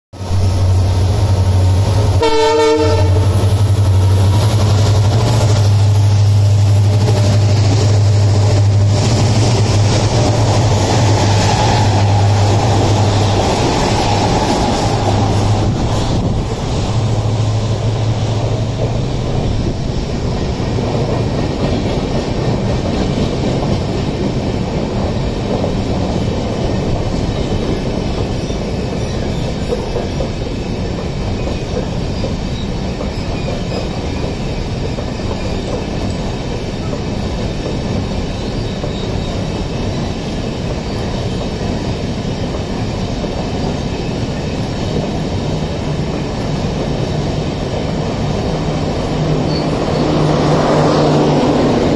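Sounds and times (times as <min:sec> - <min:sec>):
train wheels rumbling on rails: 0:00.1 - 0:51.9.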